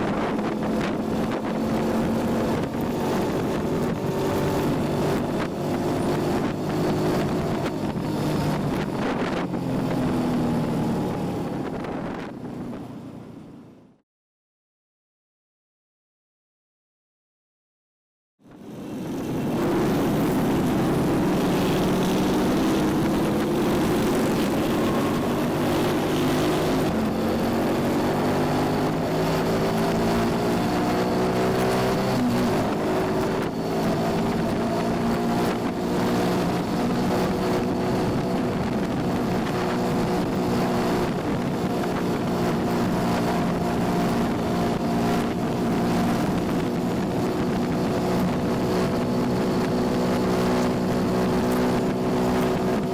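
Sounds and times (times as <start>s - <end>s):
motorcycle engine accelerating: 0.0s - 14.0s, 18.5s - 52.9s.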